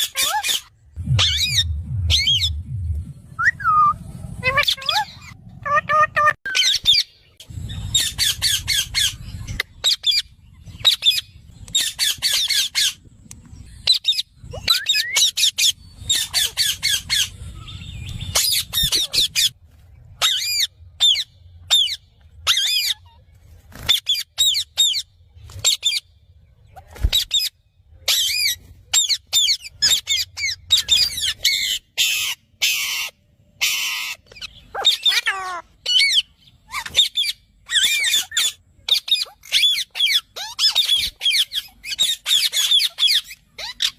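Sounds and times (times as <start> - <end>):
parrots chirping and screeching: 0.0 - 2.5, 3.6 - 13.0, 13.7 - 19.6, 20.2 - 26.0, 26.8 - 43.9.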